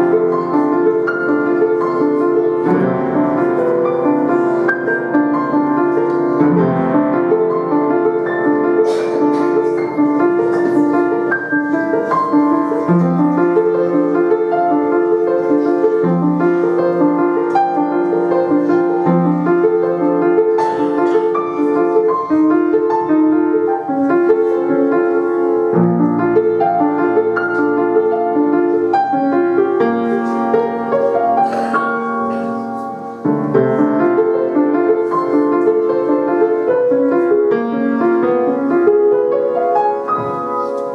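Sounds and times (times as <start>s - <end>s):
solo piano piece: 0.0s - 40.9s.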